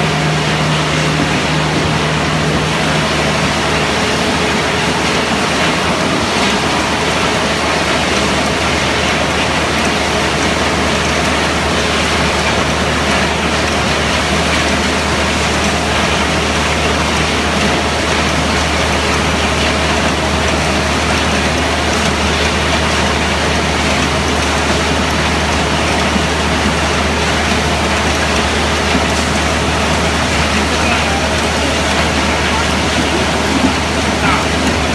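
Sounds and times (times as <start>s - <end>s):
loud steady machine noise: 0.0s - 34.9s.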